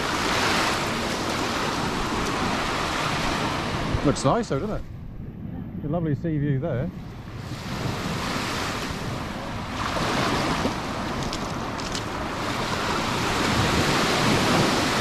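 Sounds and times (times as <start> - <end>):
sea waves washing onto beach: 0.0 - 4.8, 6.9 - 15.0
wind rumbling on microphone: 0.0 - 15.0.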